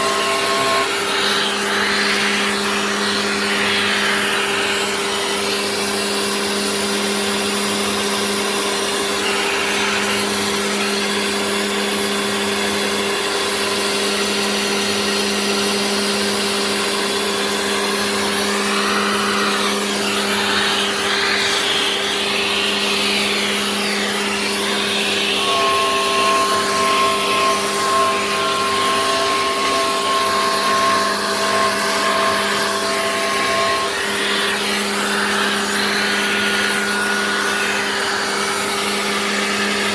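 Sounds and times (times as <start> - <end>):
router spindle hum: 0.0 - 39.9.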